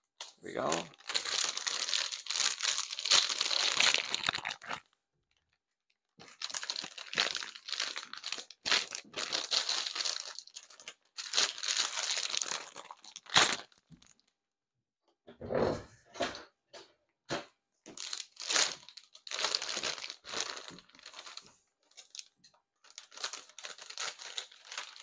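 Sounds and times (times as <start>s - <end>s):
plastic bag crinkling: 0.1s - 14.3s, 17.9s - 25.0s.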